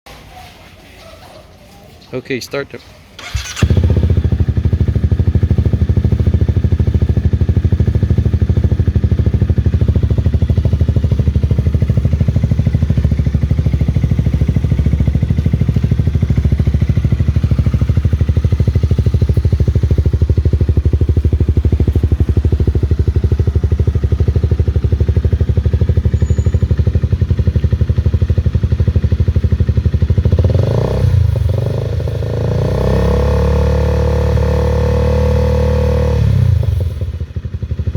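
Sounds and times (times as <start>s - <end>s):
motorcycle engine idling: 3.2s - 37.9s.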